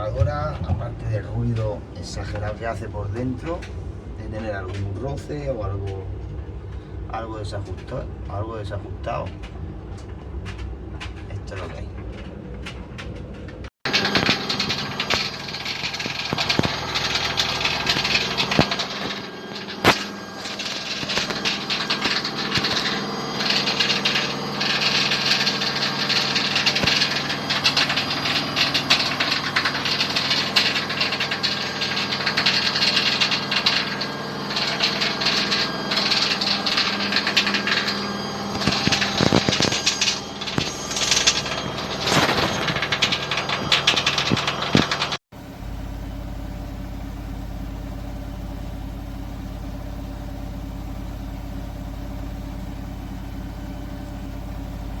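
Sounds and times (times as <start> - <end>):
washing machine humming: 0.0 - 55.0
washing machine scraping and rattling: 9.4 - 55.0.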